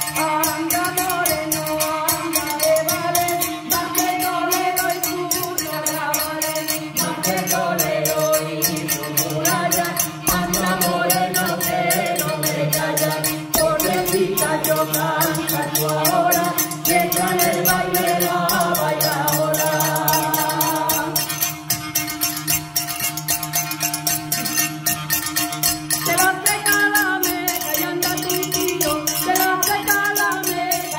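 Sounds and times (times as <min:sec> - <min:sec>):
voices singing in unison: 0:00.0 - 0:21.6, 0:26.0 - 0:30.9
glass bottle percussion: 0:00.0 - 0:30.9
small brass hand cymbals: 0:00.0 - 0:30.9.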